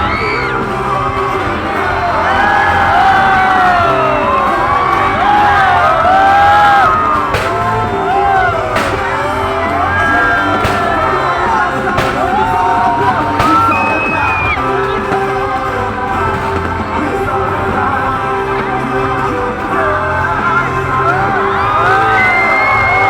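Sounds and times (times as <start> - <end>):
crowd yelling and whooping: 0.0 - 23.0
firework bangs: 0.0 - 23.0
music playing: 0.0 - 23.0.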